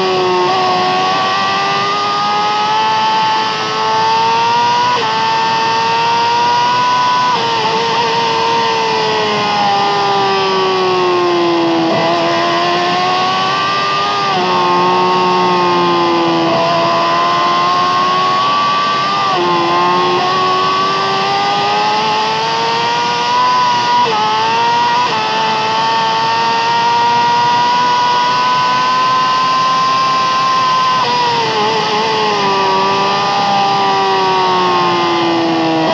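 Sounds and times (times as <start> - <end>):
motorcycle engine revving through gears: 0.0 - 35.9.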